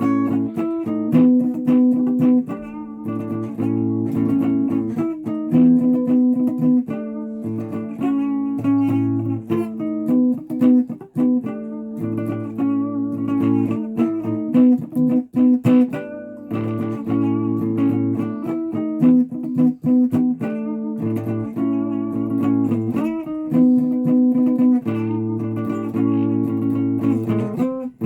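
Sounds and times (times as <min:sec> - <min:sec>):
guitar playing: 0:00.0 - 0:28.0.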